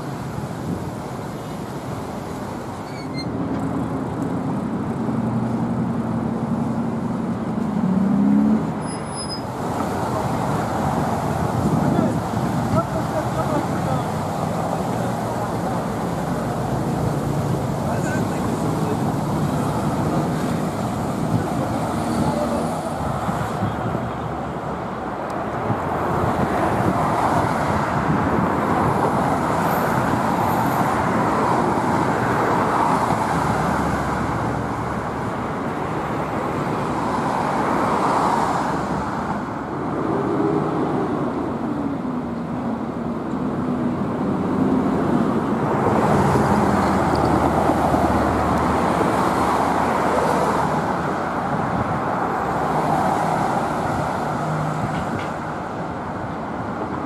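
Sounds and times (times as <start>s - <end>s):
city road traffic: 0.0s - 57.0s
vehicles passing: 0.0s - 57.0s.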